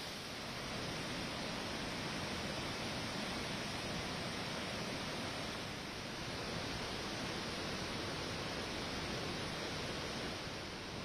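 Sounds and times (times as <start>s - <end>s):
river in flood rushing: 0.0s - 11.0s.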